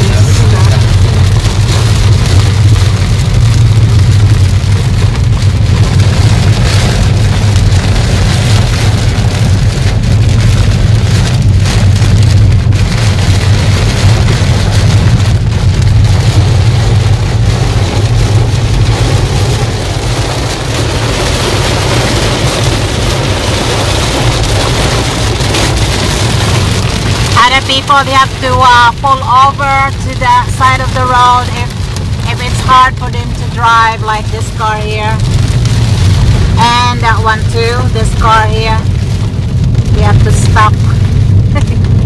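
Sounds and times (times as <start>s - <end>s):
heavy rain beating on car: 0.0s - 42.0s
low rumble of car: 0.0s - 42.0s.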